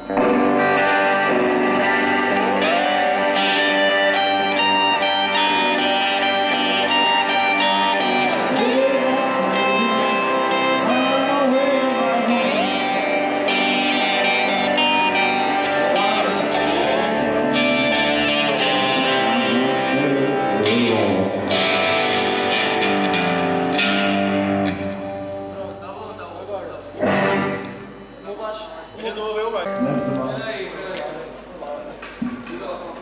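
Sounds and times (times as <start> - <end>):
electric guitars through amplifiers: 0.0 - 28.9, 29.6 - 33.0.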